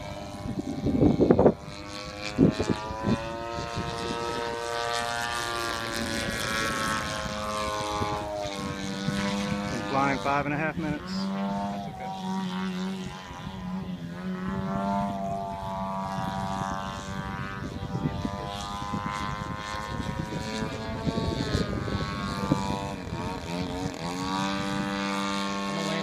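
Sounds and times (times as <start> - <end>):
model plane engine and propeller: 0.0 - 26.0.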